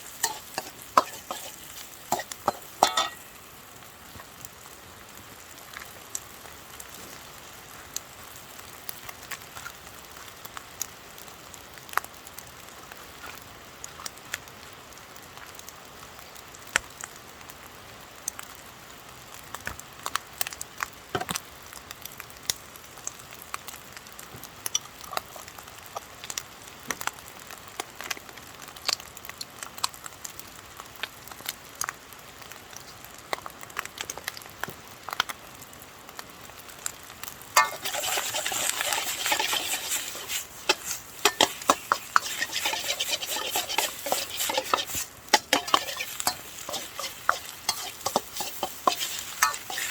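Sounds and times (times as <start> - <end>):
campfire crackles and pops: 0.0 - 49.9
rice sizzling in a wok: 0.0 - 49.9.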